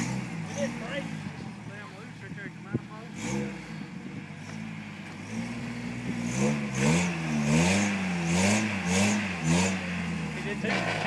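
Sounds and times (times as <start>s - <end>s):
pickup engine revving: 0.0s - 11.0s.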